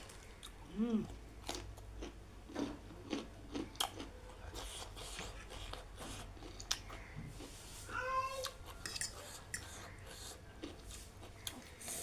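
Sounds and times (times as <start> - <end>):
wet chewing sounds: 0.0 - 7.6, 8.4 - 12.0.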